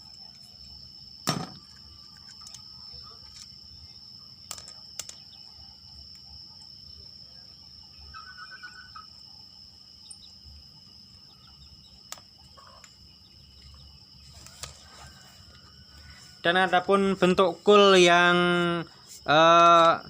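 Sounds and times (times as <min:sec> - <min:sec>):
high-pitched insect trill: 0:00.0 - 0:20.0.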